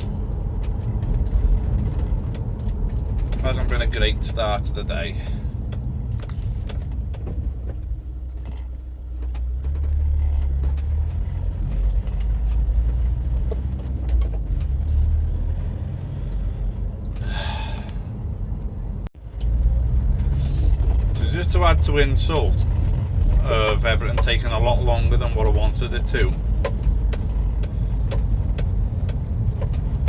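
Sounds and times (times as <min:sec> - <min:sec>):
road and engine rumble in van: 0:00.0 - 0:30.0.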